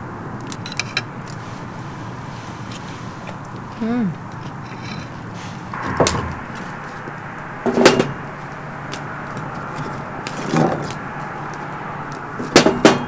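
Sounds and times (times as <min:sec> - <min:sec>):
fire crackling: 0:00.0 - 0:12.5.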